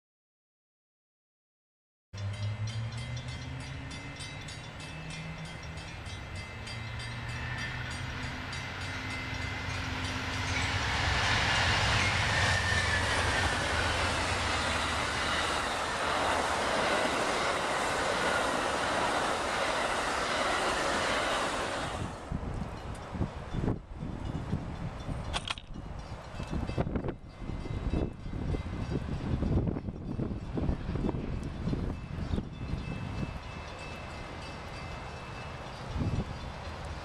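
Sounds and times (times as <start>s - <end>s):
diesel locomotive engines humming: 2.2s - 37.0s.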